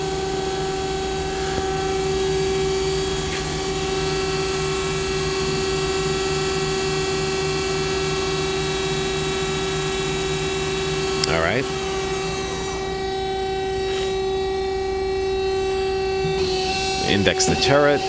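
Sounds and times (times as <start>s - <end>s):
hydraulic unit drone: 0.0s - 18.0s
lathe spindle whine: 0.0s - 18.0s
low repeating pulse: 0.0s - 18.0s.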